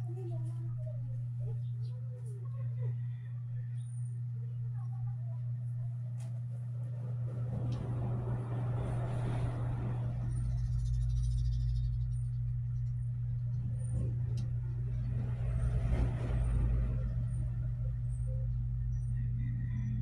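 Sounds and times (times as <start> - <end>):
deep rumble: 0.0 - 20.0
low mechanical hum: 0.0 - 20.0.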